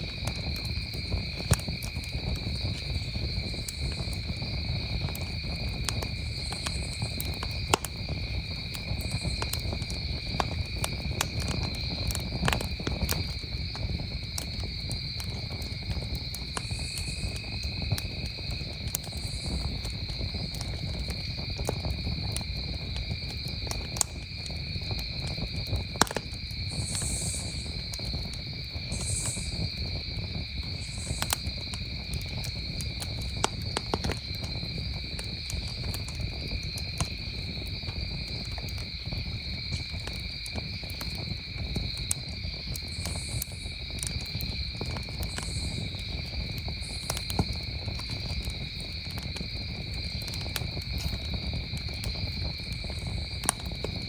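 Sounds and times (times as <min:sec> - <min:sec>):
campfire crackling and popping: 0:00.0 - 0:54.0
crickets trilling: 0:00.0 - 0:54.0.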